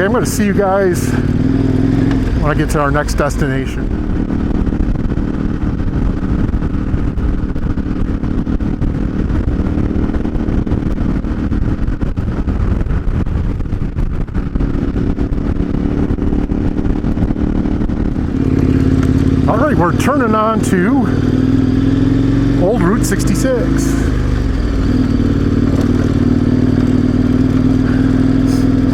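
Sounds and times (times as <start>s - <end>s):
motorcycle engine running: 0.0s - 28.9s
wind rush on microphone: 0.0s - 28.9s.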